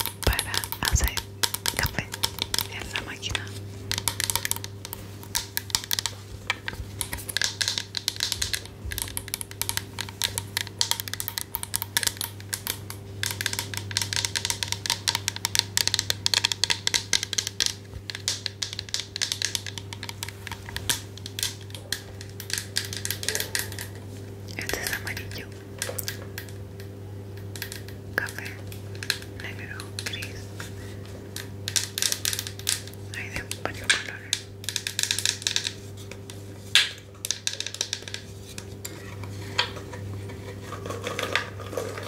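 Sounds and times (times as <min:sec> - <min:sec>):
tapping and scratching on object: 0:00.0 - 0:26.4, 0:27.5 - 0:42.0
steady low hum: 0:00.0 - 0:42.0.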